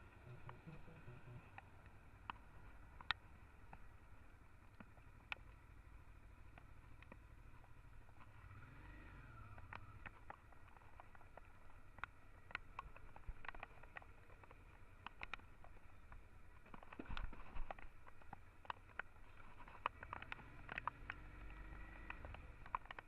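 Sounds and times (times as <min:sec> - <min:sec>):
muffled motorcycle engine rumble: 0:00.0 - 0:23.0
raindrops ticking on camera: 0:00.0 - 0:23.0.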